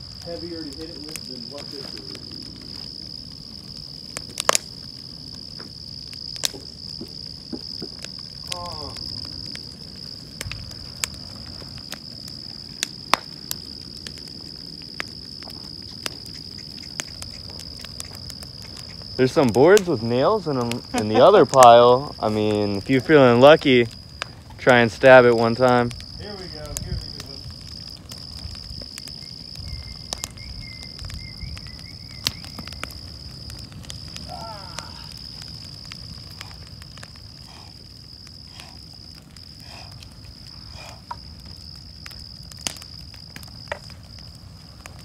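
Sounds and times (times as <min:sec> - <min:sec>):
fire popping: 0:00.0 - 0:45.0
insects trilling: 0:00.0 - 0:45.0.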